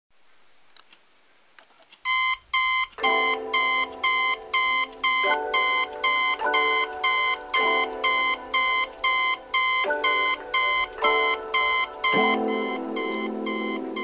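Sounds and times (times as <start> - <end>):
alarm clock beeping: 2.1 - 14.0.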